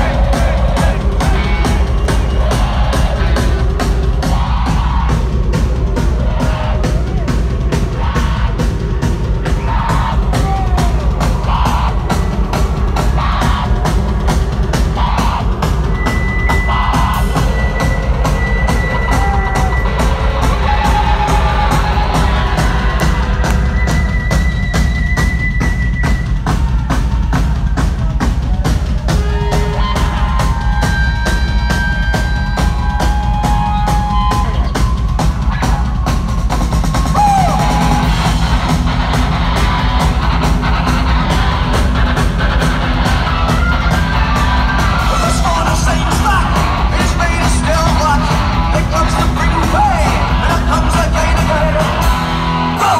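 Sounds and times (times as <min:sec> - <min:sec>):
live rock band playing: 0:00.0 - 0:52.9
high held guitar tones: 0:07.7 - 0:26.8, 0:29.1 - 0:52.9.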